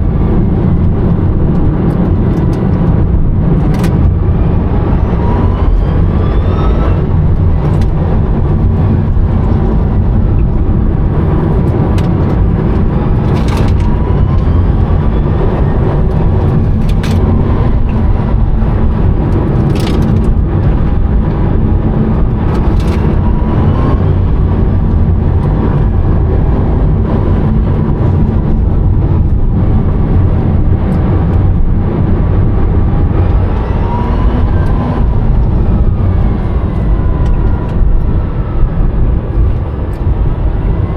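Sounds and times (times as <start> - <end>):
road and tyre rumble: 0.0 - 40.9.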